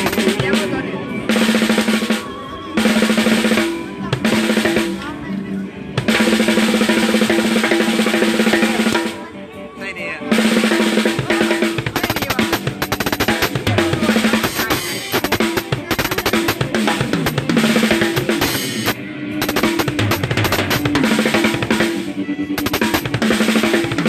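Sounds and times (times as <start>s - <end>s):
drum kit fills: 0.0s - 5.2s, 5.9s - 9.3s, 10.3s - 24.0s.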